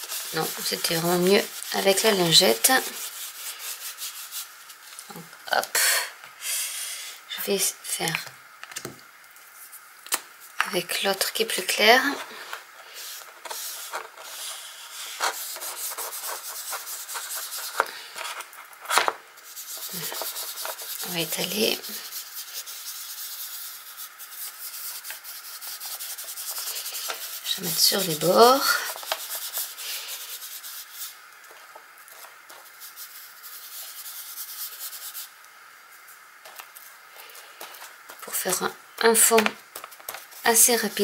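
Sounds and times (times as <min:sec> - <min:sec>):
sponge scrubbing over paper: 0:00.0 - 0:05.2, 0:10.9 - 0:35.4, 0:36.6 - 0:41.0
soft scratchy rubbing of paint: 0:00.0 - 0:05.3, 0:09.4 - 0:41.0.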